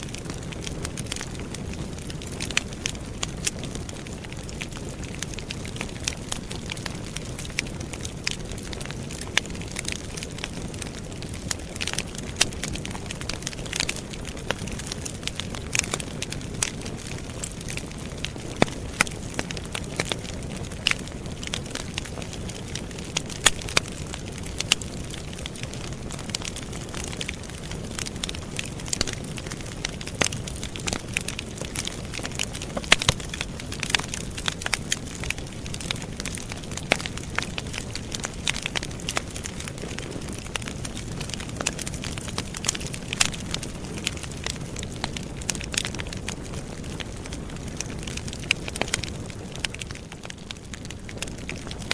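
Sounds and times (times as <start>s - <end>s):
campfire crackling and popping: 0.0s - 51.9s
low rush of flames: 0.0s - 51.9s.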